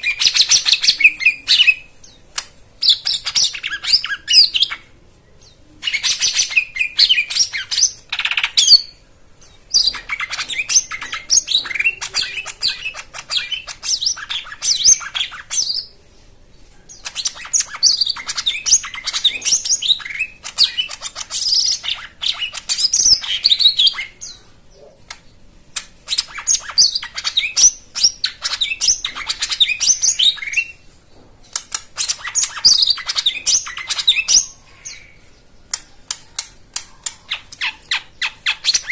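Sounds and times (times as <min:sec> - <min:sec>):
bird singing high chattering song: 0:00.0 - 0:16.0, 0:16.6 - 0:38.9.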